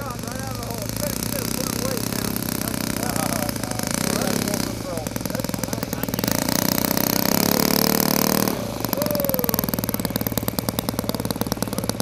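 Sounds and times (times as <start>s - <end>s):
model plane engine running: 0.0s - 12.0s.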